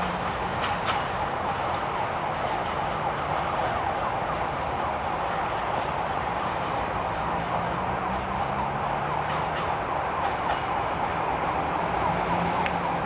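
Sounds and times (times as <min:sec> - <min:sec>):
distant diesel locomotive hum: 0:00.0 - 0:13.0.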